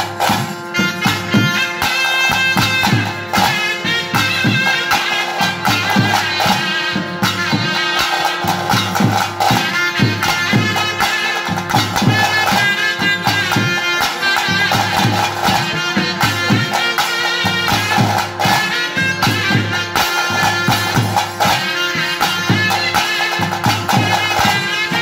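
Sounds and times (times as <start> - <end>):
double-reed wind instrument melody: 0.0 - 25.0
stick-beaten drums: 0.0 - 25.0.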